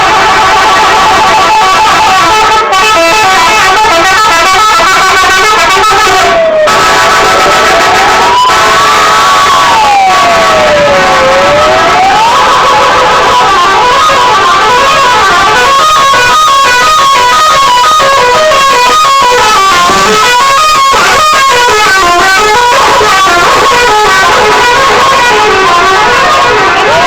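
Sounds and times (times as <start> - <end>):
multi-tone bus horns playing melodies: 0.0 - 27.0.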